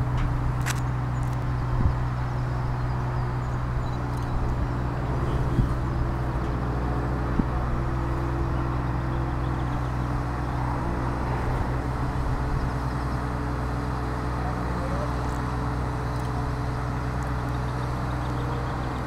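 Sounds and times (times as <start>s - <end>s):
crane diesel engine running: 0.0s - 19.0s.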